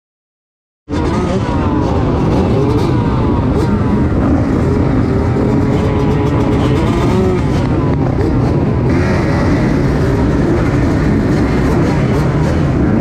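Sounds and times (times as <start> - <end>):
motocross engine revving: 0.9 - 13.0.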